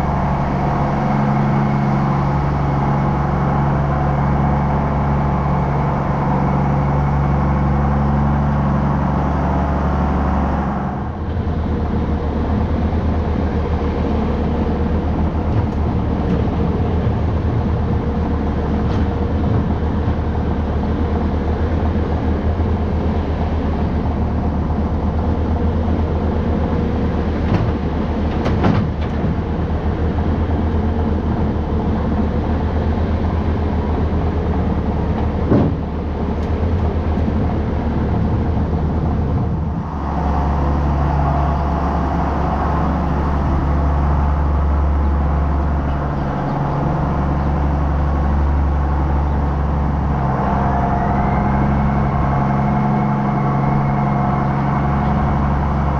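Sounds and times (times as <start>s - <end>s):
engine knocks: 0.0s - 55.9s
engine running: 0.0s - 55.9s.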